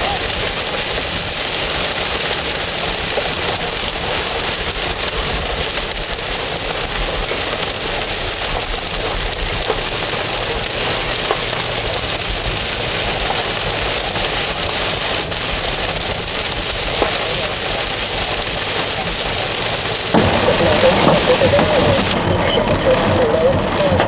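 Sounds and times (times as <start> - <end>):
heavy rain on a car: 0.0 - 24.0
raindrop ticks: 0.0 - 24.0.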